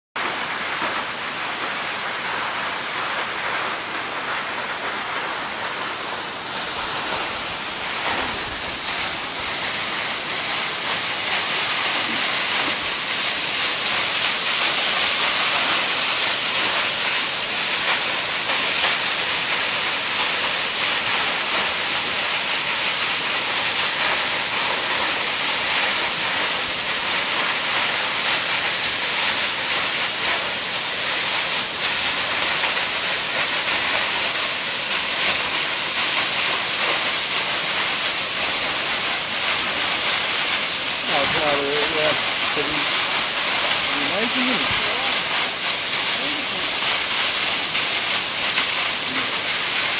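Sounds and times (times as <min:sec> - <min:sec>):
waterfall rushing: 0:00.2 - 0:49.9.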